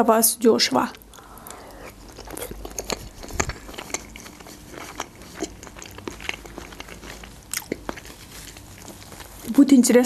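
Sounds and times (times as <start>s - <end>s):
person chewing with mouth closed: 0.9s - 9.5s.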